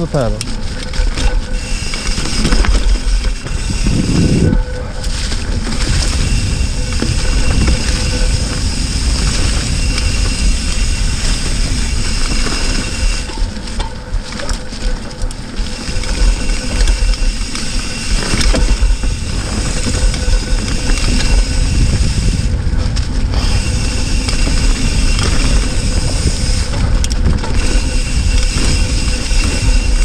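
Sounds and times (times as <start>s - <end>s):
bike rattling: 0.0s - 30.0s
bike tyres rolling on dirt: 0.0s - 30.0s
wind rumble on microphone: 0.0s - 30.0s.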